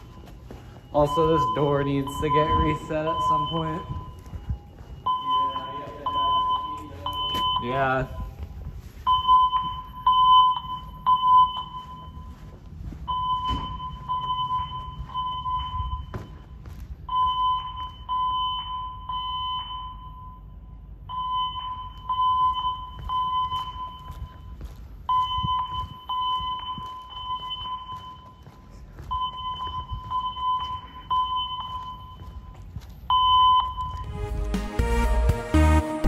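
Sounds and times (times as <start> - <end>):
faint footsteps: 0.0 - 20.4, 21.1 - 35.4
fire alarm beeps: 0.0 - 34.2.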